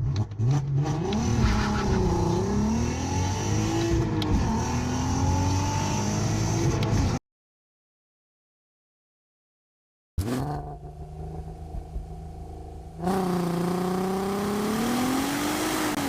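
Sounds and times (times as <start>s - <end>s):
car engine accelerating: 0.0s - 7.2s, 10.2s - 16.0s.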